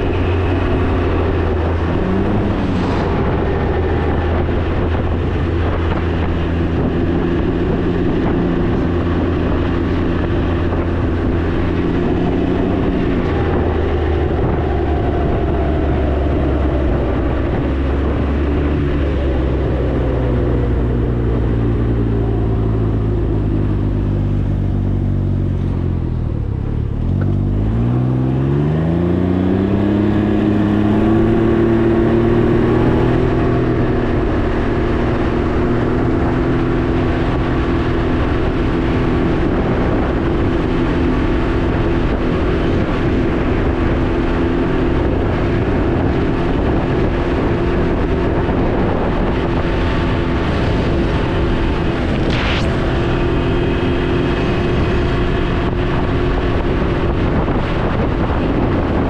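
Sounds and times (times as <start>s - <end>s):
three-cylinder engine accelerating: 0.0s - 59.0s.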